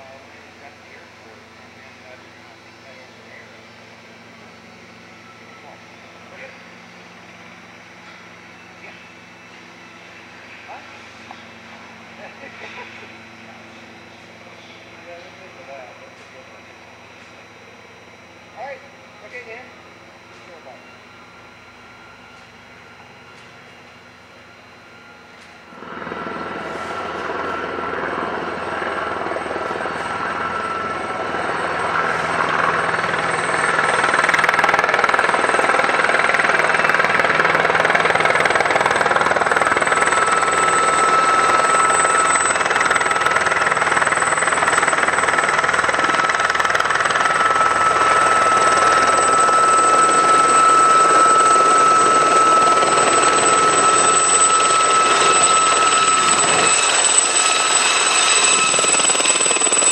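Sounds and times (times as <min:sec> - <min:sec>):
helicopter hovering: 0:00.0 - 0:59.9.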